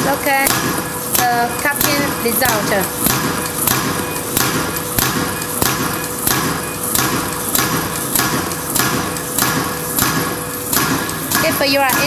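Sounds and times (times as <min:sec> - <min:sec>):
cutter striking rhythmically: 0:00.0 - 0:12.0
machine hum: 0:00.0 - 0:12.0.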